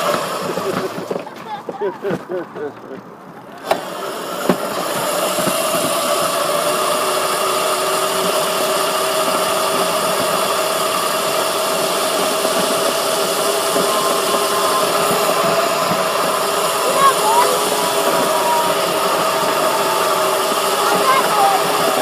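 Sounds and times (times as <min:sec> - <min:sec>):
electric motor and chain whine: 0:00.0 - 0:01.3, 0:03.5 - 0:22.0.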